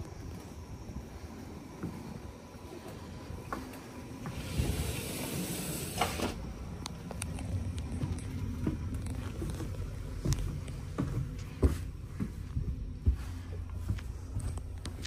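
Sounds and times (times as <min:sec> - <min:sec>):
footsteps: 0:00.0 - 0:04.9, 0:06.6 - 0:15.0.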